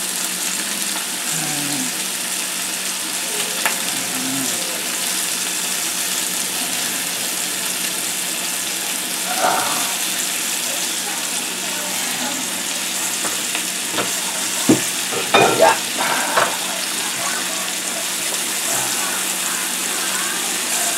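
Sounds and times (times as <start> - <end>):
meat sizzling in hot oil: 0.0 - 20.9.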